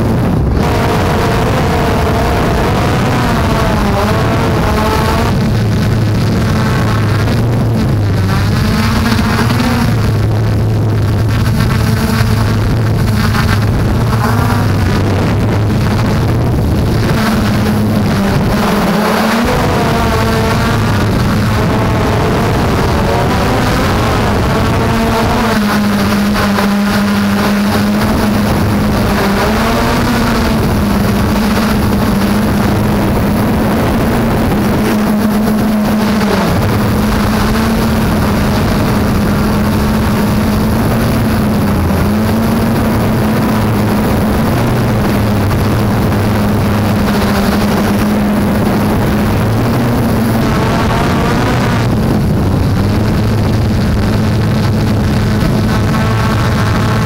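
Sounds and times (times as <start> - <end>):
quadcopter propellers buzzing: 0.0 - 57.0
wind rush: 0.0 - 57.0.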